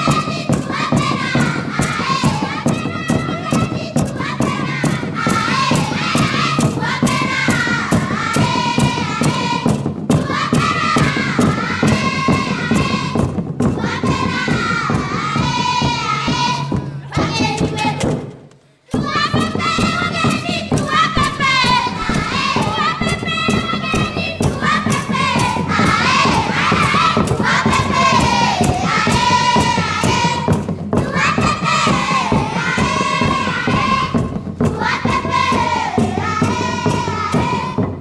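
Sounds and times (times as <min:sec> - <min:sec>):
group of voices singing: 0:00.0 - 0:18.2, 0:18.9 - 0:38.0
steady drum beat: 0:00.0 - 0:38.0.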